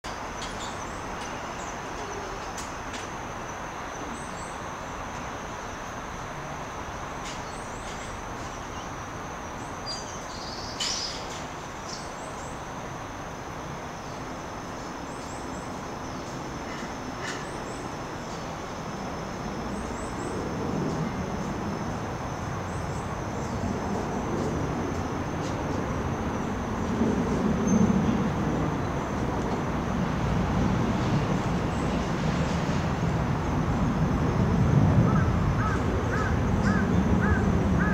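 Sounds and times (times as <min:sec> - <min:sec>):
steady hiss: 0:00.1 - 0:37.8.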